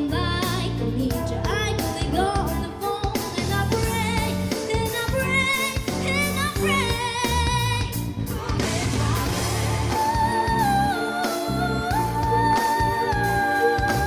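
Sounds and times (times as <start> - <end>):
backing music with beat: 0.0 - 14.0
woman singing pop song: 0.0 - 14.0.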